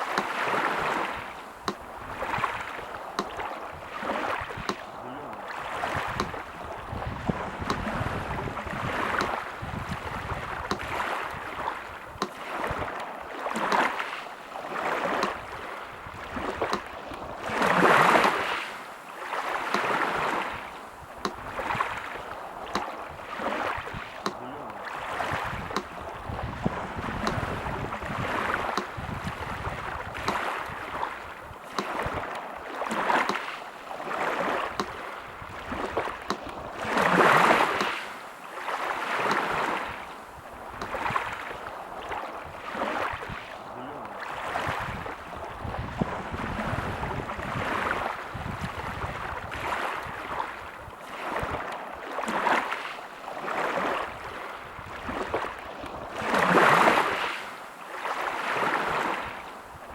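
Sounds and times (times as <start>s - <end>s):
sea surf washing in: 0.0s - 59.9s.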